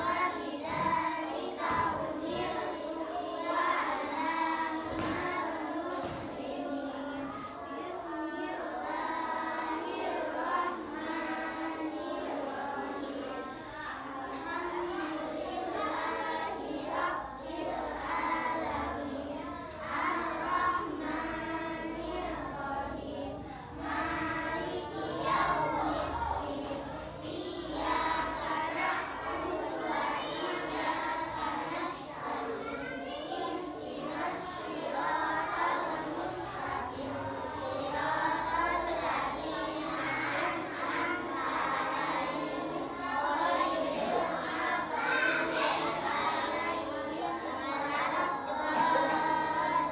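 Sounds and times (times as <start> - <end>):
children chanting prayers together: 0.0 - 49.9.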